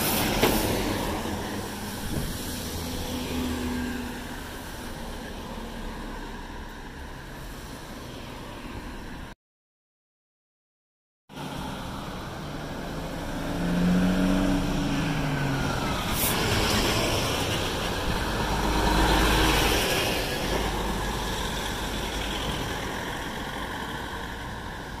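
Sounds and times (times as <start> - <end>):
trucks driving past: 0.0 - 9.4, 11.3 - 25.0.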